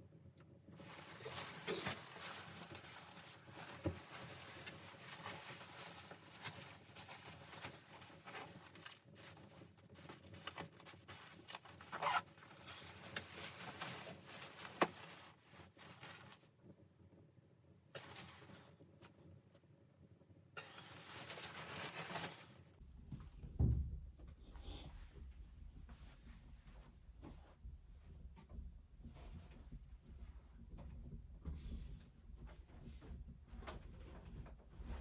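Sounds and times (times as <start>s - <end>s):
rustling and scraping handling: 0.7s - 16.6s, 18.0s - 19.3s, 20.6s - 35.0s.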